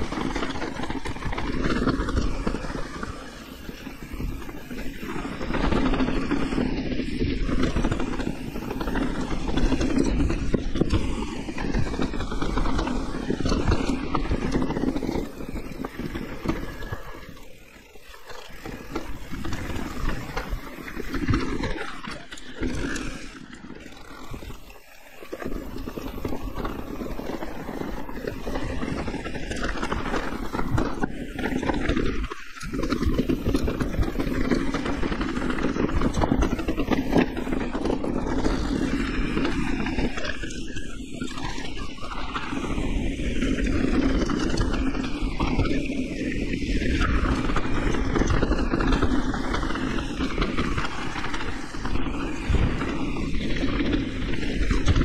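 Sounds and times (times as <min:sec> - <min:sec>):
mountain bike tyre and frame noise: 0:00.0 - 0:55.0
wind buffeting microphone: 0:00.0 - 0:55.0.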